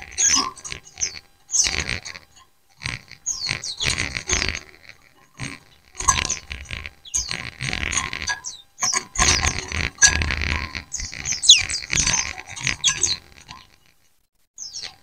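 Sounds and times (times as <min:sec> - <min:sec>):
birds chirping and chattering: 0:00.0 - 0:15.0.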